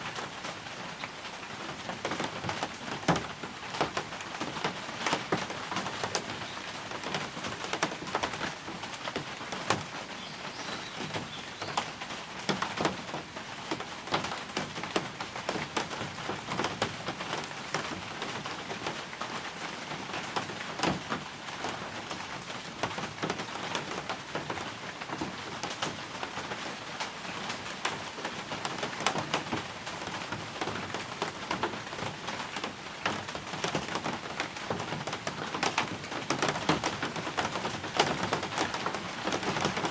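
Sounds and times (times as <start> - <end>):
raindrops splattering on hard surfaces: 0.0 - 39.9
steady rain: 0.0 - 39.9.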